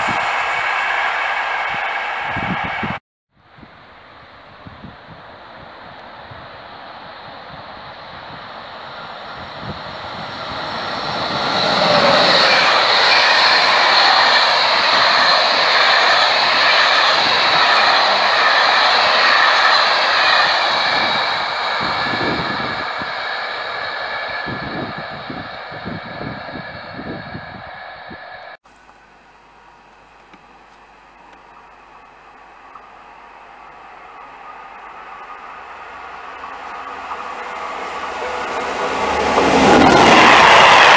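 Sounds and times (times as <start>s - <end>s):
passenger train passing at speed: 0.0s - 40.9s.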